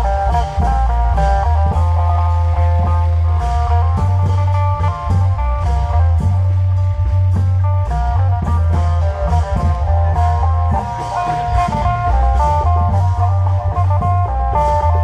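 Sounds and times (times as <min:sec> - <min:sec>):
fast plucked-string melody: 0:00.0 - 0:15.0
heavy bass: 0:00.0 - 0:15.0
steady drumming: 0:00.0 - 0:15.0.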